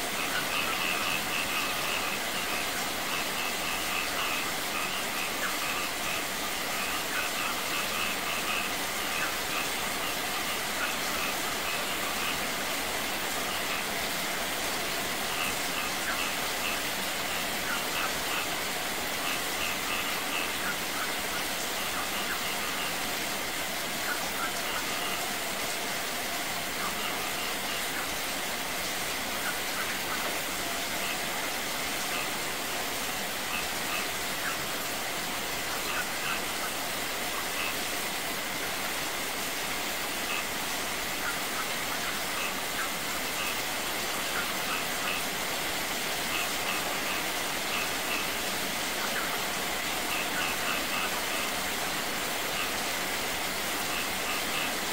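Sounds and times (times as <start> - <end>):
rain pouring on concrete: 0.0 - 54.9
small waterfall splashing over rocks: 0.0 - 54.9.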